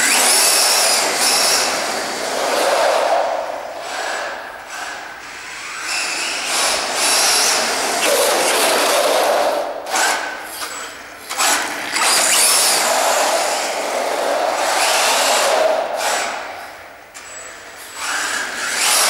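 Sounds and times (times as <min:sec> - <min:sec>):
rc truck motor whine: 0:00.0 - 0:19.0.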